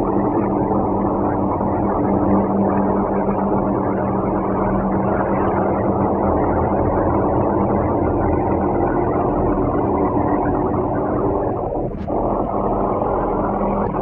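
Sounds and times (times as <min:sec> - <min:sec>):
vehicle noise with low hum: 0:00.0 - 0:14.0.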